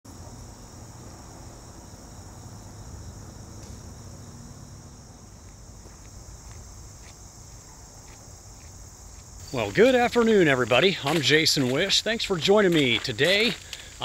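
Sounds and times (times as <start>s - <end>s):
insects singing: 0.1s - 14.0s.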